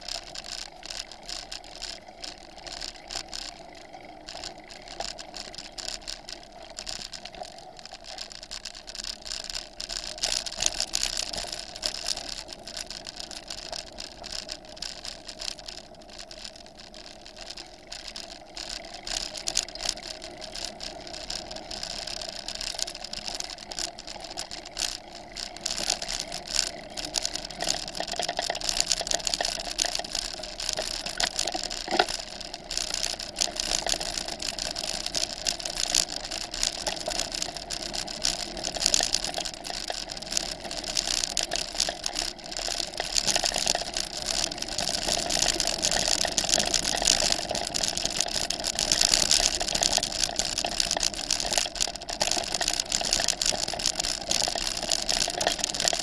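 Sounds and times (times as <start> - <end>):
bicycle tyres rolling: 0.0 - 56.0
bicycle rattling and knocking: 7.2 - 56.0.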